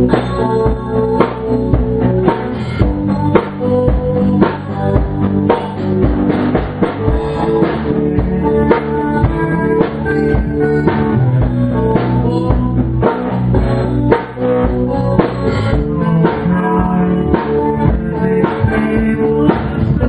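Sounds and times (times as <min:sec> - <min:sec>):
drum kit steady beat: 0:00.0 - 0:20.0
guitars playing chords: 0:00.0 - 0:20.0.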